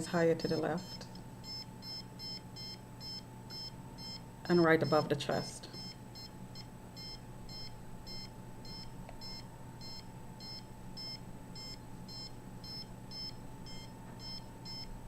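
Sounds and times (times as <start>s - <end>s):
rf meter beeping: 0.5s - 15.0s.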